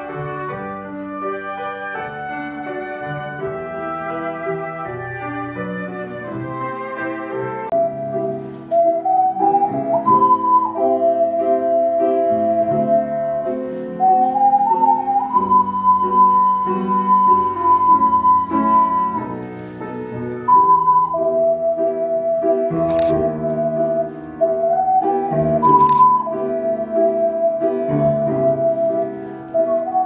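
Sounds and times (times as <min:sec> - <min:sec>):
ocarina ensemble playing: 0:00.0 - 0:30.0.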